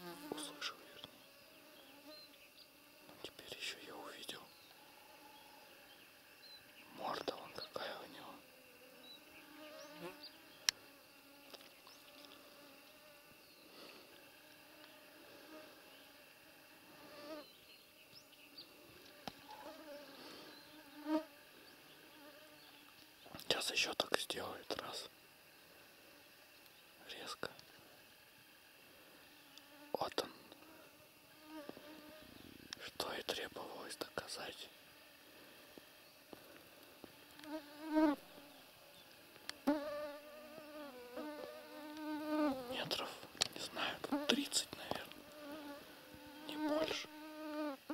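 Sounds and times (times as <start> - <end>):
flying insects buzzing: 0.0 - 47.9.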